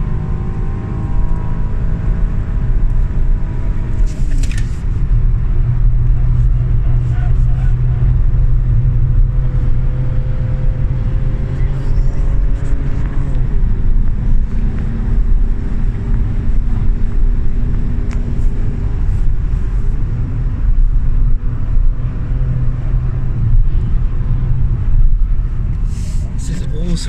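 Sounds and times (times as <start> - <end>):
car engine at high revs: 0.0 - 27.0
road and tyre noise: 0.0 - 27.0.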